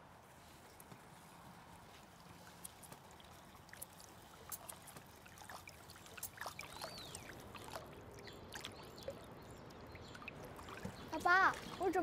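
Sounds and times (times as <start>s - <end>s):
small water drips: 0.3s - 12.0s
water trickling: 0.4s - 12.0s.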